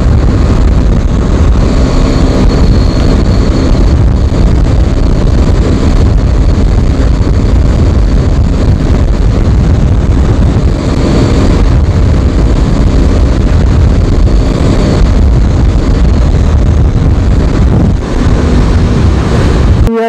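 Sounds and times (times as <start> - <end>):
motorcycle engine at high revs: 0.0 - 19.9
wind buffeting microphone: 0.0 - 20.0.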